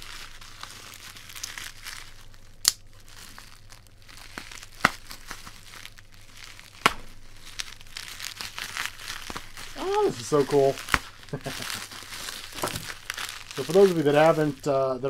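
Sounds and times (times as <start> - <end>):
bubble wrap crinkling: 0.0 - 15.0
bubble wrap snaps: 0.0 - 15.0.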